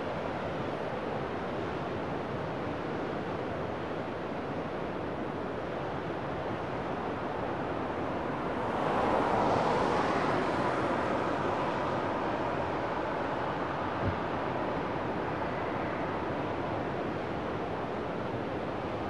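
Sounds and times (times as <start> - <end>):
ocean surf over rocks: 0.1 - 19.0.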